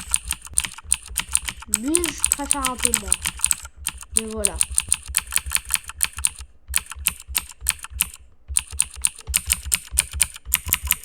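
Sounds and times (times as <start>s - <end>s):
clicky mechanical keyboard typing: 0.0s - 11.0s.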